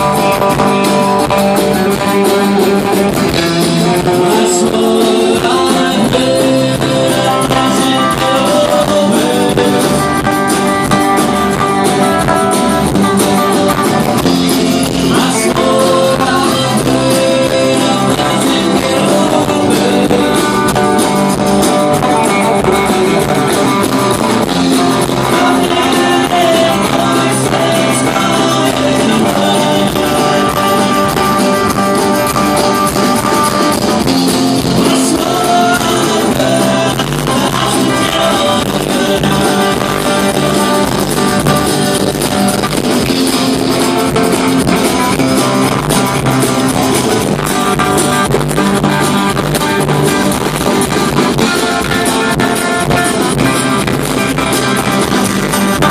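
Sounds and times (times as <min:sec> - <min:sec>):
live rock-country band playing: 0:00.0 - 0:55.9.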